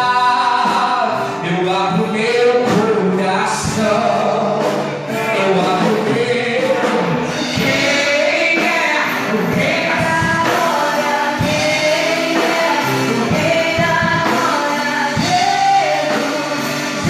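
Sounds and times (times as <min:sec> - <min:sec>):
musical accompaniment: 0:00.0 - 0:17.0
voices singing gospel: 0:00.0 - 0:17.0.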